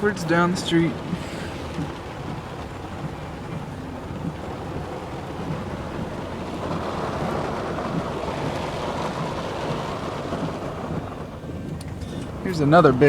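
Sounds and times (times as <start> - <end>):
heavy rain rushing: 0.0 - 13.0
truck engine running low: 0.0 - 13.0.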